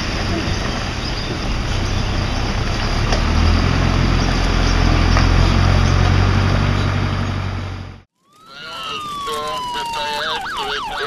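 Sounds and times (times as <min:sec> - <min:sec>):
fire truck diesel engine: 0:00.0 - 0:11.0.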